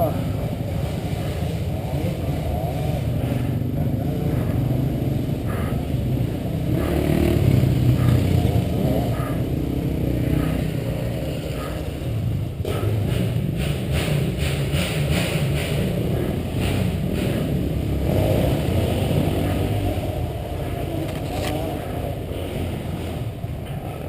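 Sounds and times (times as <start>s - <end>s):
motocross bike engine running: 0.0s - 24.0s.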